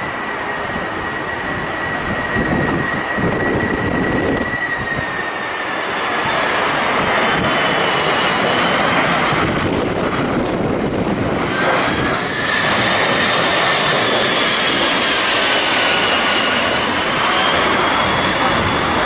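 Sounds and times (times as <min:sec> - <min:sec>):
airplane engines running: 0:00.0 - 0:19.0.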